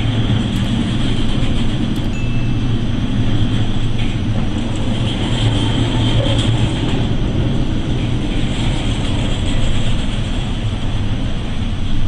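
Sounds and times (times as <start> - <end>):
rushing wind: 0.0 - 12.0
sea noise: 0.0 - 12.0
ship machinery drone: 0.0 - 12.0.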